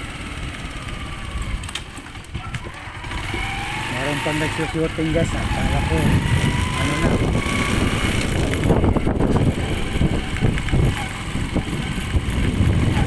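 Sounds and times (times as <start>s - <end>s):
vehicle rumble: 0.0s - 13.0s
wind buffeting microphone: 1.0s - 13.0s.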